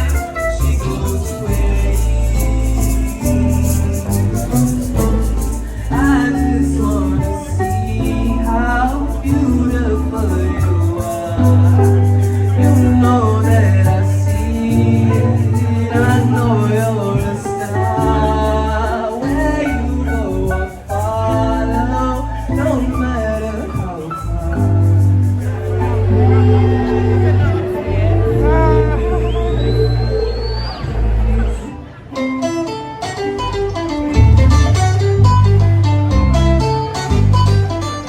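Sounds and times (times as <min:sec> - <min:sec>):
person singing: 0:00.0 - 0:32.0
strong bass line: 0:00.0 - 0:32.0, 0:33.4 - 0:38.0.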